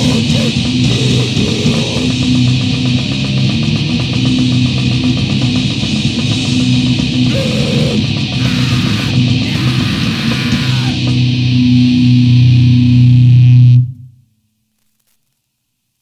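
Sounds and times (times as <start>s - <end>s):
noise-grind band playing: 0.0s - 14.0s.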